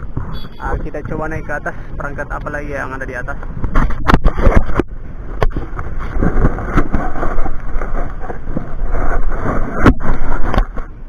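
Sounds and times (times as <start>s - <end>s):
rumbling and rustling on microphone: 0.0s - 11.0s.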